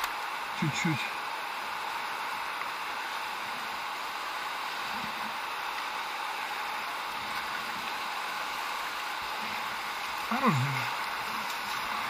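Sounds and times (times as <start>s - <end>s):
whitewater river rapid rushing: 0.0s - 12.0s.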